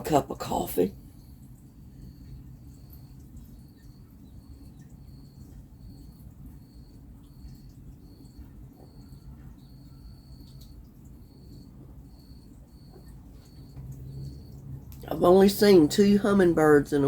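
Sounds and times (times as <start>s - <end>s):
distant highway traffic: 0.0s - 17.0s
insect chirping: 0.5s - 17.0s.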